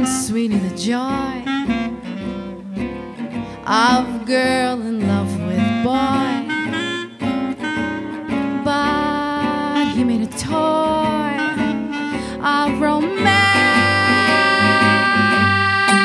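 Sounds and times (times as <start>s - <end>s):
acoustic guitar: 0.0s - 16.0s
saxophone melody: 0.0s - 16.0s
upright bass: 0.0s - 16.0s.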